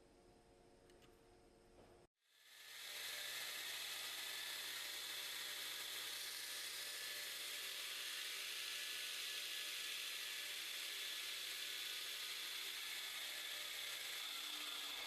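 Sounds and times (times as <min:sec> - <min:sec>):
bench grinder running: 0:02.2 - 0:15.0.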